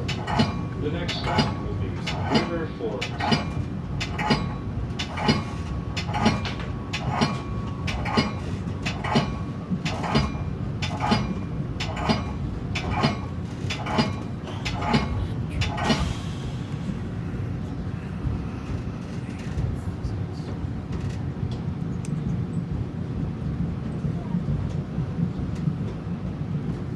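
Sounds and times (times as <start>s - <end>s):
train rumble: 0.0s - 26.9s
train wheels clicking over rail joints: 0.0s - 26.9s.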